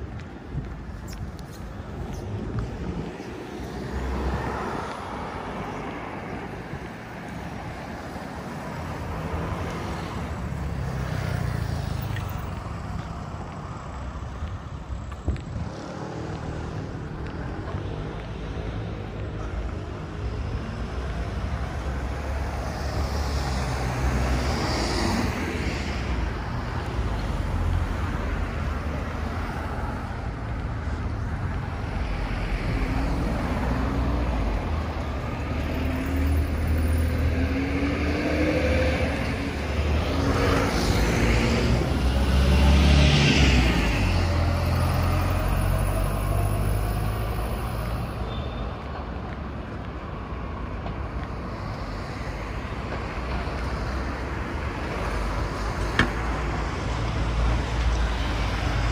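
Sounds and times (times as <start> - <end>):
traffic rumble: 0.0 - 58.9
vehicles passing close: 0.0 - 58.9.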